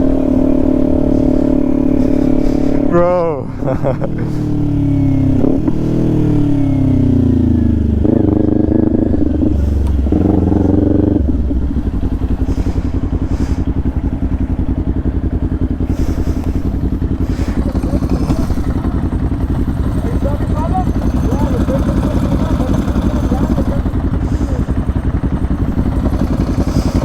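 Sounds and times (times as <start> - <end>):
motorcycle engine slowing to idle: 0.0 - 27.0.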